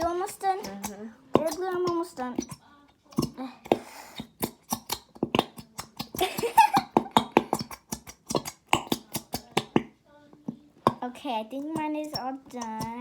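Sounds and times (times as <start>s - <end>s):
glue bottle sputtering pops: 0.0s - 11.1s.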